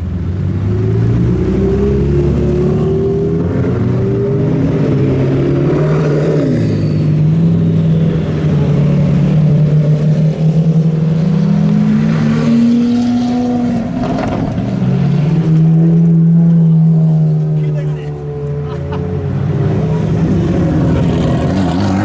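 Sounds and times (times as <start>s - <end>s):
car engines driving past: 0.0s - 22.0s.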